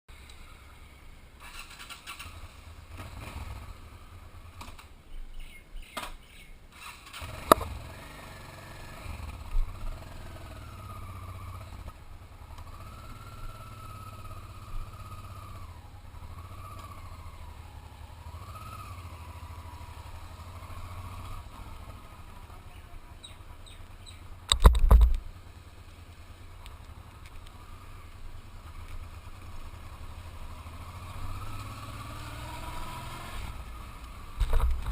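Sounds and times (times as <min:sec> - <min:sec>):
motorcycle engine rumbling: 0:00.1 - 0:34.9.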